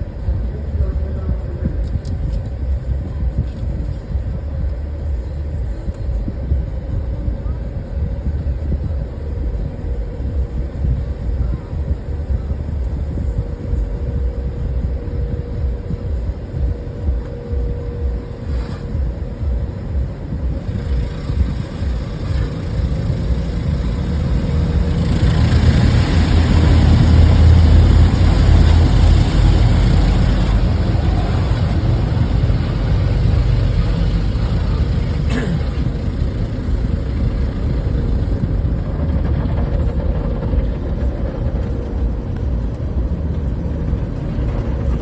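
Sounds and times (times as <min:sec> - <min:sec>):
car wash rumble: 0:00.0 - 0:45.0
water jets and spinning brushes: 0:00.0 - 0:45.0.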